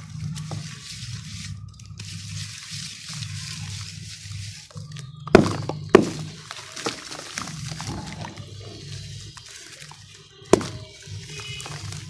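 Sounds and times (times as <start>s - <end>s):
mud squelching and dribbling: 0.0s - 12.0s.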